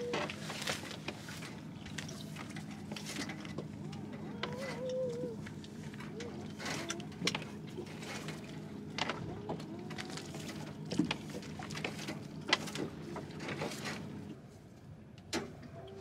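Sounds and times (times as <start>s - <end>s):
boat engine hum: 0.0s - 16.0s.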